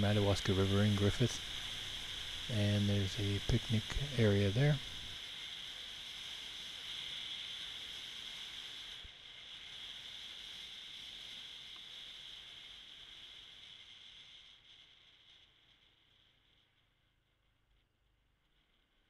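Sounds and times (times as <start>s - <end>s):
faint high-pitched hiss: 0.0s - 19.0s.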